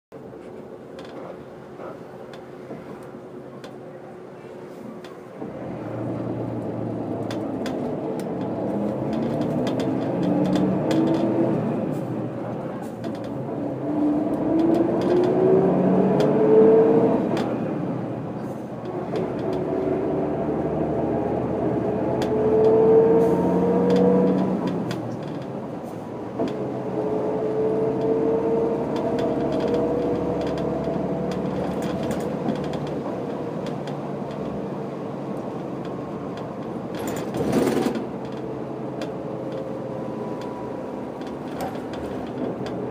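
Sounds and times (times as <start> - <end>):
bus diesel engine accelerating: 0.2 - 42.9.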